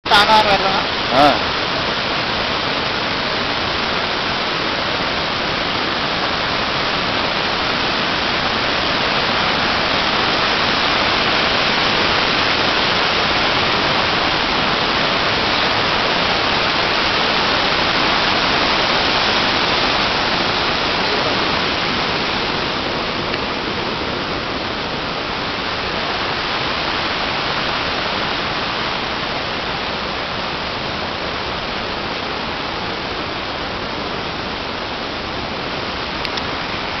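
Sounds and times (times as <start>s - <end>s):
floodwater rushing: 0.0s - 37.0s.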